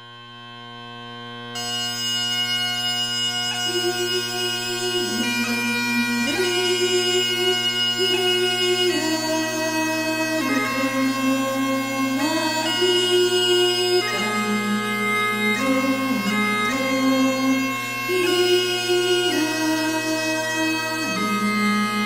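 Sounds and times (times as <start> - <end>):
bagpipe chanter melody: 0.0 - 22.0
bagpipe drones: 0.0 - 22.0.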